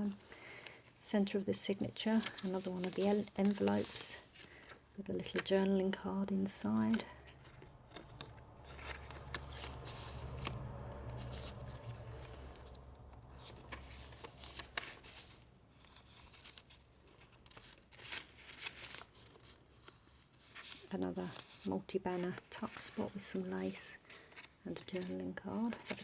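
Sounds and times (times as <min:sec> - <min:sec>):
paper rustling: 0:00.0 - 0:26.0.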